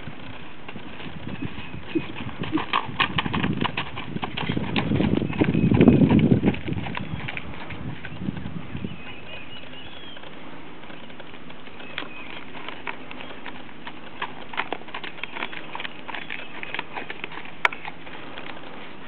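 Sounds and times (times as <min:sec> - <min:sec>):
birds chirping: 0:00.0 - 0:02.7, 0:04.8 - 0:19.0
steady outdoor hiss: 0:00.0 - 0:19.0.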